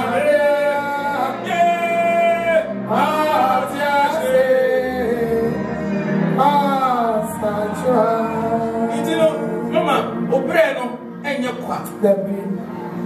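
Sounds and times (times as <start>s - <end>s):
man singing worship song: 0.0s - 10.5s.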